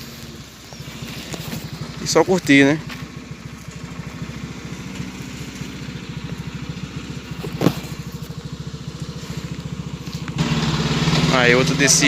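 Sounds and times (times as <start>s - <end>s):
motorcycle engine running low: 0.0s - 12.0s.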